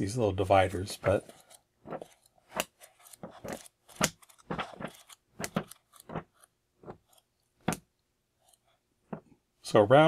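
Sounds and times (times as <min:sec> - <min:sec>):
book pages turning: 0:00.4 - 0:09.4.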